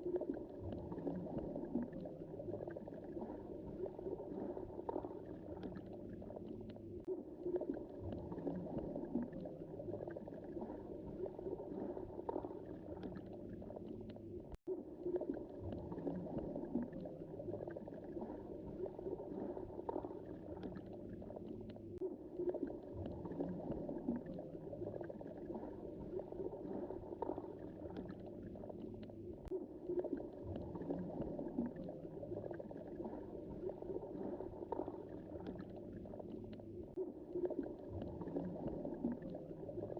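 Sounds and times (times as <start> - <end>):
muffled underwater water wash: 0.0 - 39.9.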